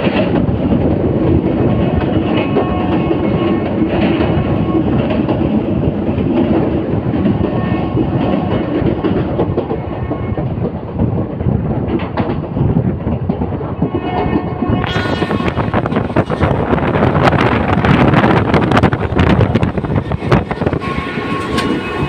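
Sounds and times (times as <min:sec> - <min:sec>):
train rumbling on track: 0:00.0 - 0:22.0
wheels clacking on rails: 0:00.0 - 0:22.0.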